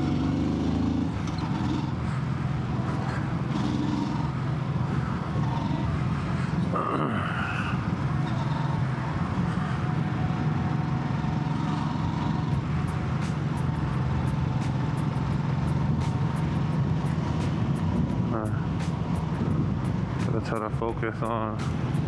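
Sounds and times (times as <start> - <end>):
motorcycle engine cruising: 0.0 - 22.0
road and wind noise: 0.0 - 22.0.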